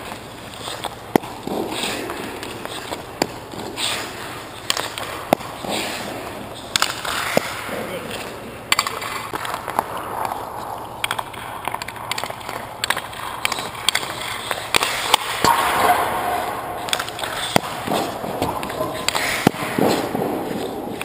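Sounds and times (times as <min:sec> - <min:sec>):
skate blades scraping ice: 0:00.0 - 0:21.0.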